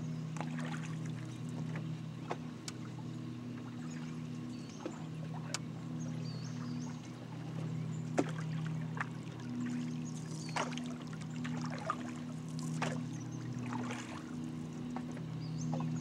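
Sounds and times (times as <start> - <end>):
steady low hum: 0.0 - 16.0
paddle splashing in water: 0.4 - 6.0, 6.6 - 16.0.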